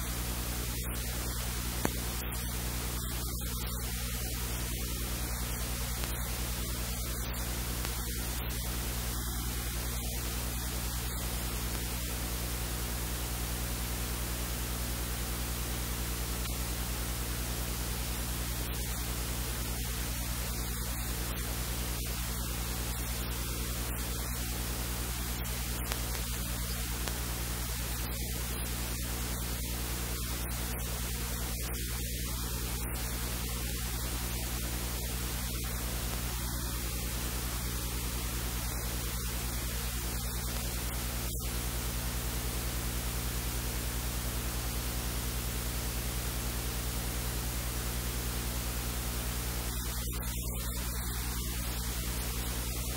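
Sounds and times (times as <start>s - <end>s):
low electrical hum: 0.0s - 52.9s
static-like hiss: 0.0s - 52.9s.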